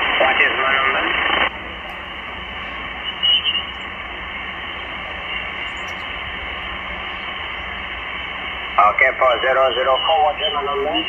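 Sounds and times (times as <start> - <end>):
shortwave radio hiss: 0.0 - 11.0.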